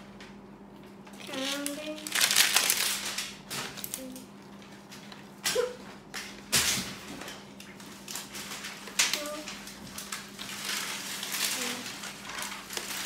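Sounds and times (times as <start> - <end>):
plastic packaging rustling: 1.0 - 5.7, 6.6 - 13.0.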